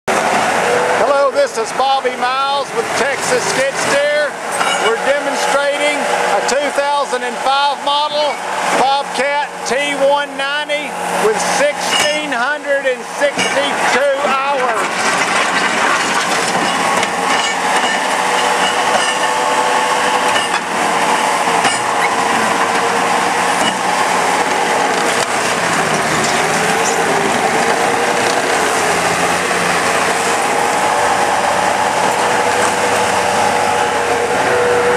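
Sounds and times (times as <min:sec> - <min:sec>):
track loader engine whine: 0:00.1 - 0:34.9
tracks rattling: 0:01.2 - 0:34.9.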